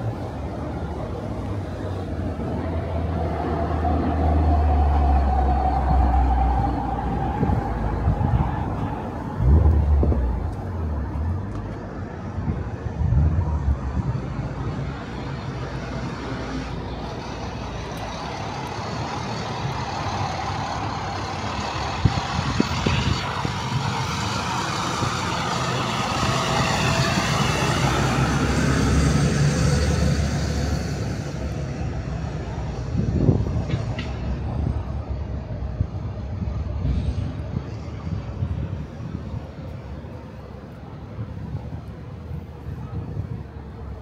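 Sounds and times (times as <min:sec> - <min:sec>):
truck engine rumble: 0:00.0 - 0:44.0.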